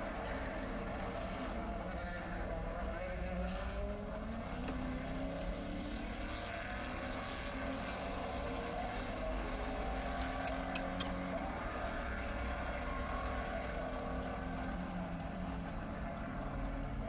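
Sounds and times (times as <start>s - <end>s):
race car engines in recording: 0.0s - 17.0s.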